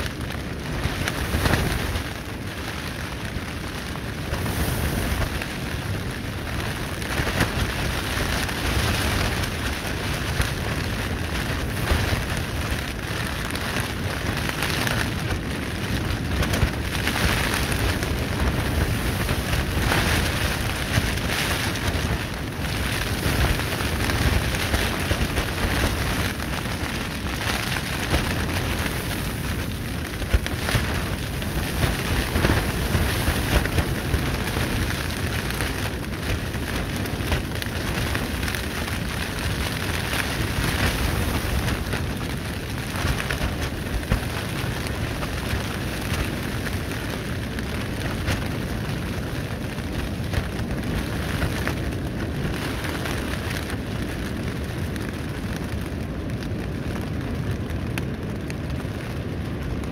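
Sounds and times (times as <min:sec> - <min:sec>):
low rumble of wind: 0:00.0 - 0:59.9
plastic sheeting flapping: 0:00.0 - 0:59.9.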